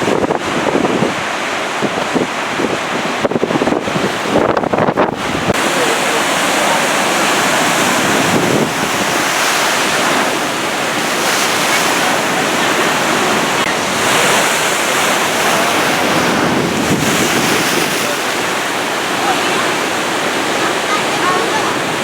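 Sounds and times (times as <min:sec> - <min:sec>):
heavy surf breaking: 0:00.0 - 0:22.0
wind buffeting microphone: 0:00.0 - 0:22.0.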